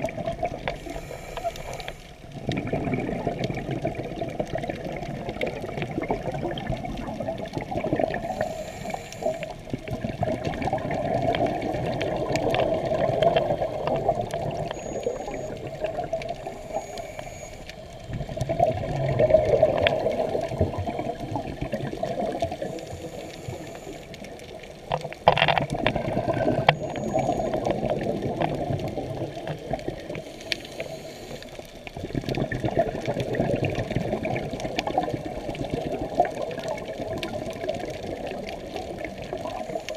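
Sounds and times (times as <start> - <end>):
underwater breath bubbling: 0.0 - 39.9.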